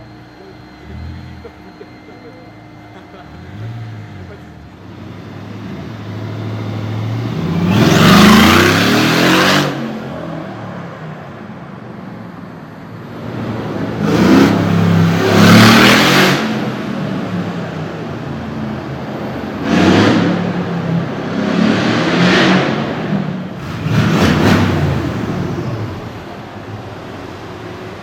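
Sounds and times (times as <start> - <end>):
car engine revving: 0.0 - 28.0
loud exhaust roar: 0.0 - 28.0.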